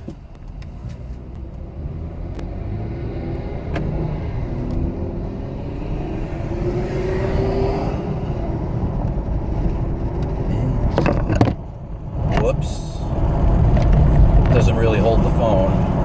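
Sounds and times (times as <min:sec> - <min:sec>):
car engine accelerating: 0:00.0 - 0:16.0
road rumble: 0:00.0 - 0:16.0.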